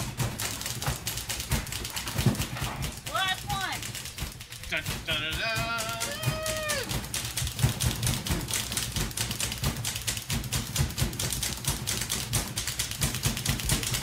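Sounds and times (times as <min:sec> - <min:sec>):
typewriter key clacks: 0:00.0 - 0:14.0.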